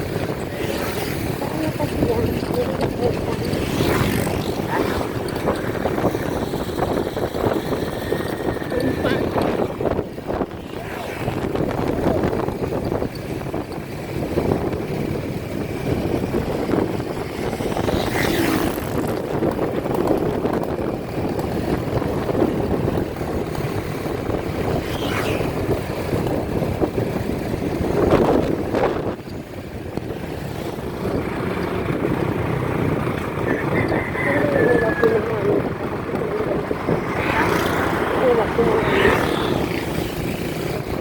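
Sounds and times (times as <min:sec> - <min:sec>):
wind on microphone: 0:00.0 - 0:41.0.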